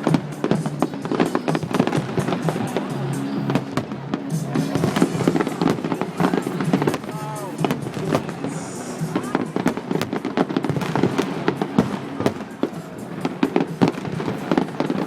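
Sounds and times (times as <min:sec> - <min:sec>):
fireworks banging and crackling: 0:00.0 - 0:15.0
loud music: 0:00.0 - 0:15.0.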